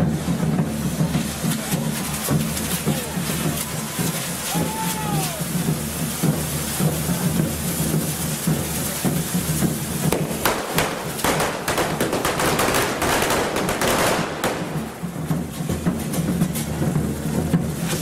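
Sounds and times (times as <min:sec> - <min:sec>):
crackling bangs: 0:00.0 - 0:18.0
fireworks hissing: 0:00.0 - 0:18.0
low drumbeat: 0:00.0 - 0:18.0.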